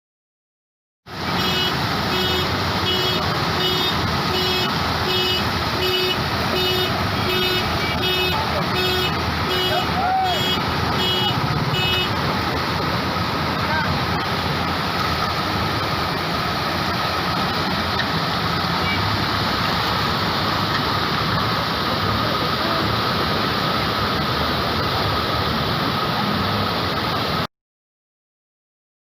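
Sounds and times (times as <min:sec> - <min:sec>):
floodwater rushing: 0:01.1 - 0:27.5.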